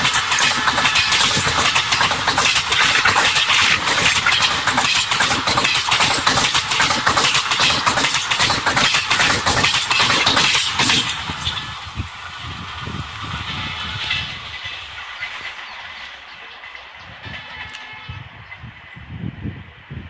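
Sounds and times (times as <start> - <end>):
train wheels clattering on rails: 0.0 - 19.1.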